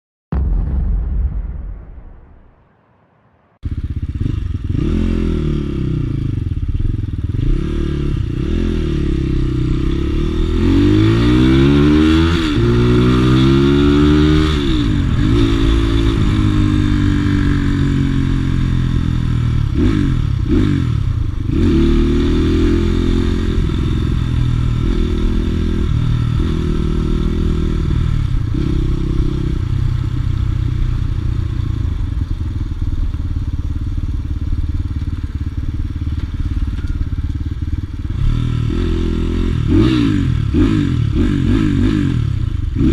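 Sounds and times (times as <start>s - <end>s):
motorcycle engine revving: 3.6s - 42.9s.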